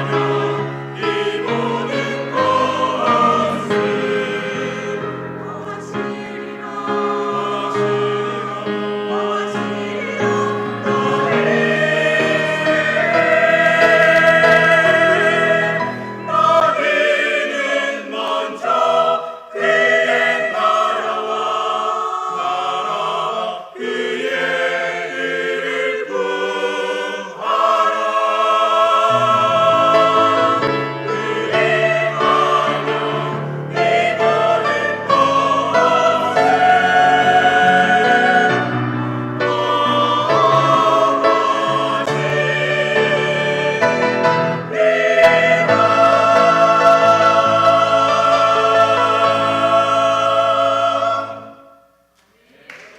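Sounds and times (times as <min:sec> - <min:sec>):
church choir singing: 0:00.0 - 0:52.9.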